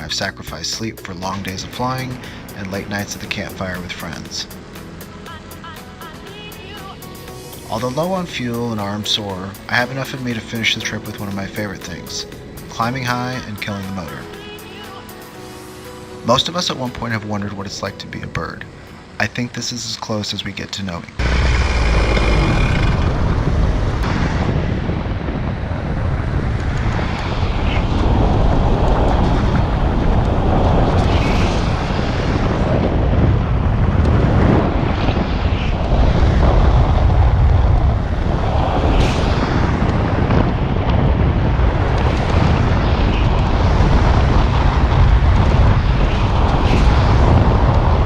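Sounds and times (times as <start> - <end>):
wind rushing over microphone: 0.0 - 14.3, 20.5 - 48.0.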